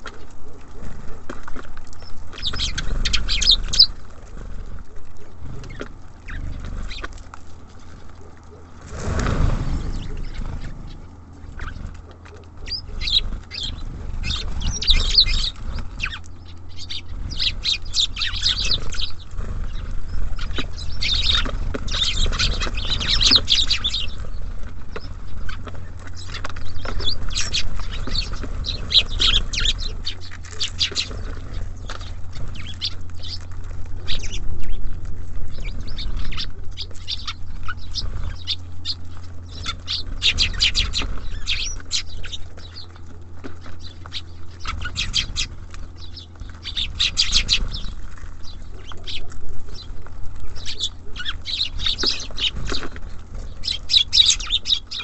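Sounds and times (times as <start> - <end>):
songbirds chirping: 0.0 - 55.0
steady low rumble: 0.0 - 55.0.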